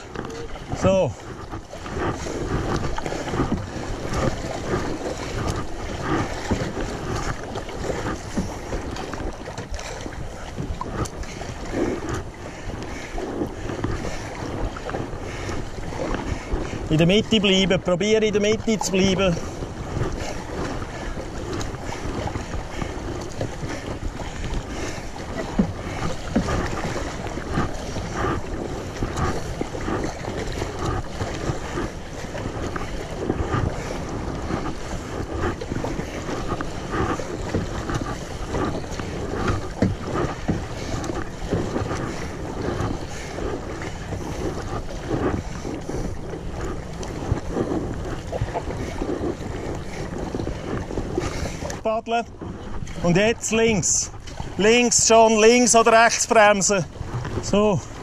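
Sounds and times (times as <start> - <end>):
river water rushing and splashing: 0.0 - 58.0
wind buffeting microphone: 0.0 - 58.0.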